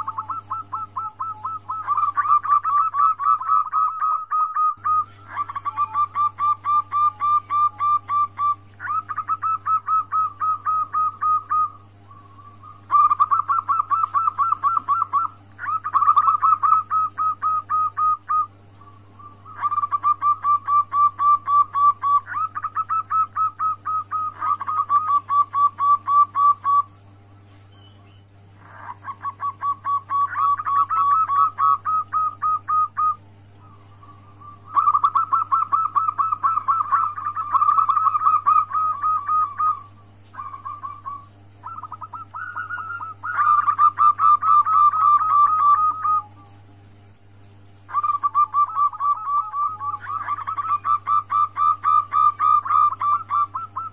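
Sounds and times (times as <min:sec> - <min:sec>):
dove cooing: 0:00.0 - 0:46.8, 0:47.8 - 0:53.9
steady low hum: 0:00.0 - 0:53.9.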